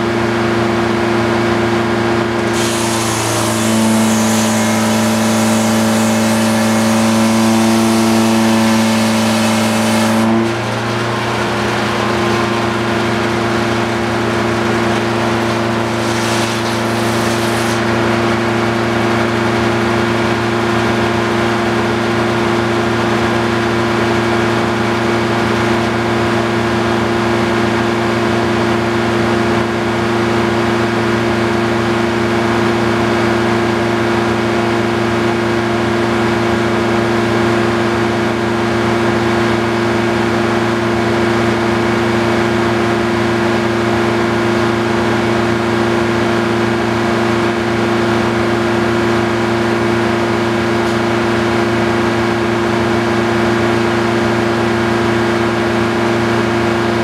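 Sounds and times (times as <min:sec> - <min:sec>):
engine running with even hum: 0:00.0 - 0:57.0.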